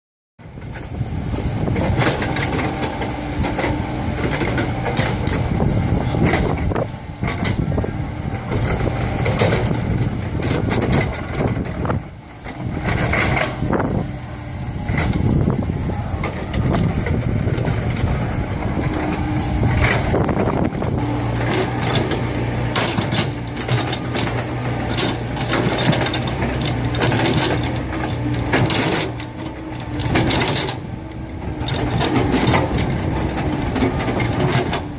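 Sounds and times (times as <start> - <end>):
excavator engine under load: 0.4 - 34.9.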